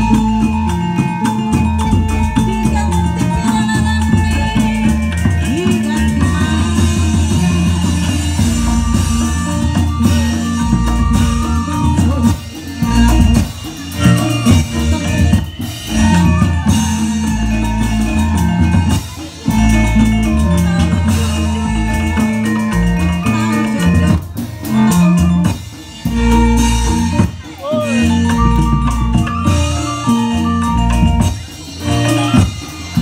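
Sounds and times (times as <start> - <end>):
drum and percussion music over loudspeaker: 0.0 - 33.0.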